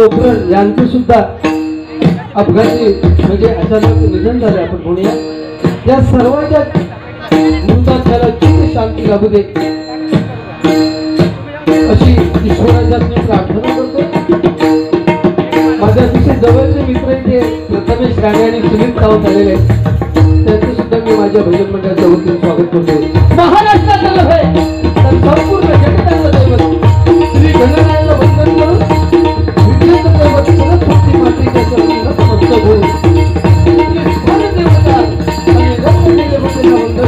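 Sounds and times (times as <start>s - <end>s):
hand drums playing rhythm: 0.0s - 37.0s
sustained melody: 0.0s - 37.0s.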